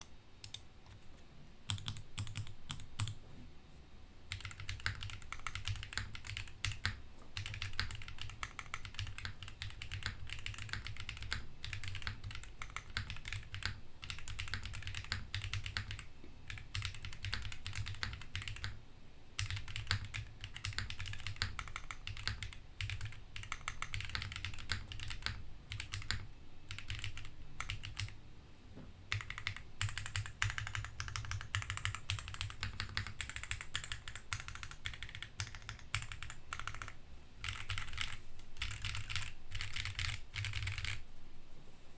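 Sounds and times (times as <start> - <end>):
mechanical keyboard typing: 0.0 - 1.0, 1.7 - 3.2, 4.3 - 18.8, 19.4 - 28.2, 29.1 - 41.0.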